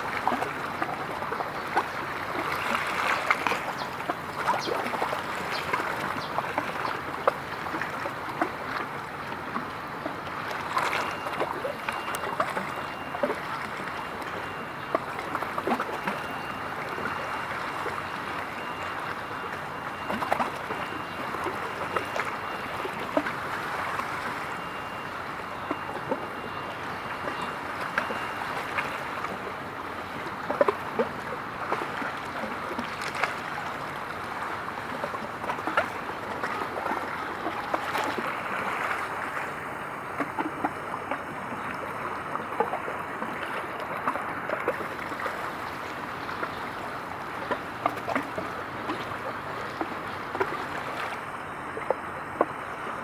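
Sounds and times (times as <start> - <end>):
small waves lapping and splashing: 0.0 - 53.0.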